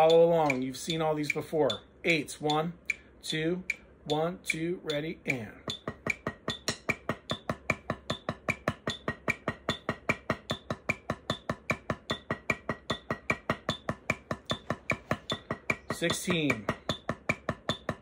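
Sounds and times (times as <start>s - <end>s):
drumsticks tapping practice pad: 0.0s - 18.0s.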